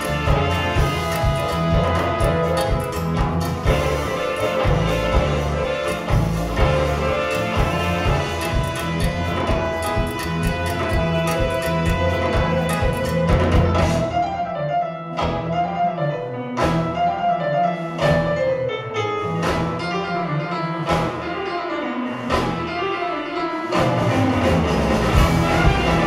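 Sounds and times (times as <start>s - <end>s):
jazz-funk band playing: 0.0s - 26.0s.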